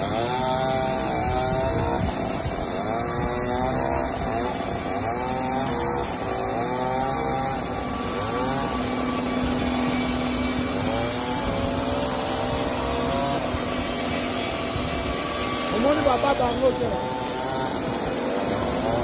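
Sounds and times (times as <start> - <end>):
band sawmill cutting log: 0.0 - 19.0.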